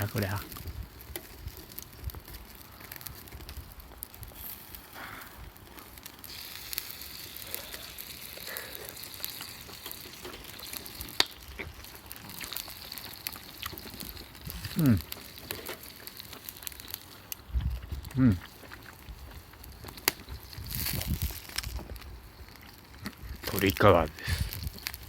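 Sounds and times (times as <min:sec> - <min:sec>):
chicken skin sizzling in pan: 0:00.0 - 0:17.5, 0:18.1 - 0:21.8, 0:22.4 - 0:25.0
campfire crackling: 0:00.0 - 0:25.0.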